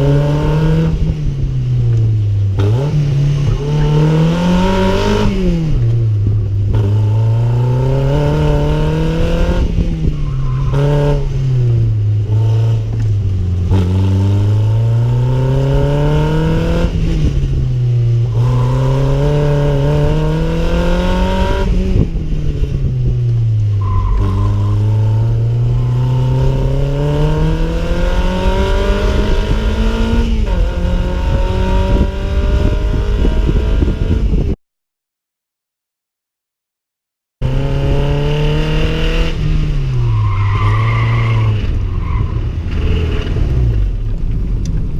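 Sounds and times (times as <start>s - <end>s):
car engine revving: 0.0s - 34.5s, 37.4s - 44.9s.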